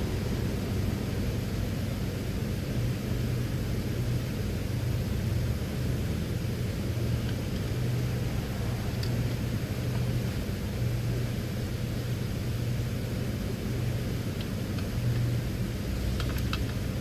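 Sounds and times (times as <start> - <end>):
machine humming: 0.0 - 16.1.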